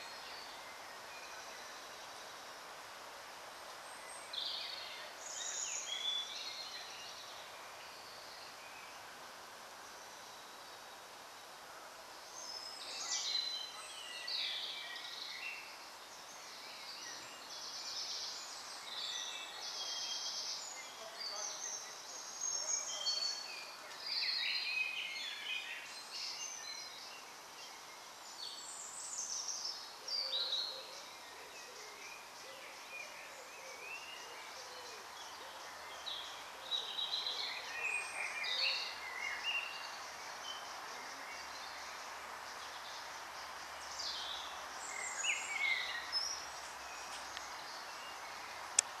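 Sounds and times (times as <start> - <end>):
faint background hiss: 0.0 - 49.0
birds singing: 3.8 - 9.2, 12.3 - 49.0.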